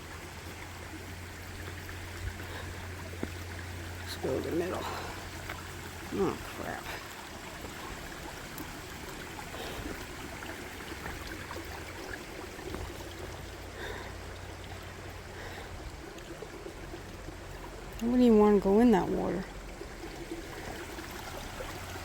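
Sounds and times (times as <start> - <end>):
stream trickling over rocks: 0.0 - 22.0.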